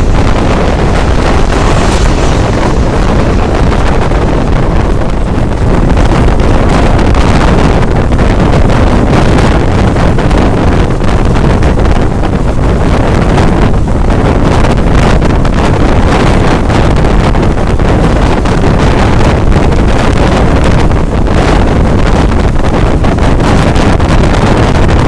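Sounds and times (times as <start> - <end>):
passenger train rumbling: 0.0 - 25.0
wind buffeting microphone: 0.0 - 25.0.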